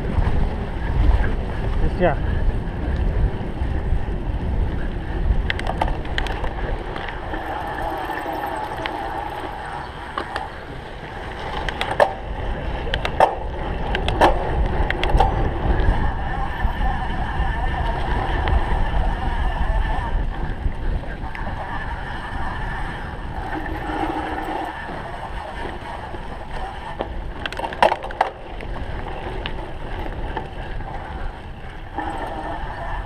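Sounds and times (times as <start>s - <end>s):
bike knocking and rattling: 0.0s - 33.0s
wind on microphone: 0.0s - 33.0s.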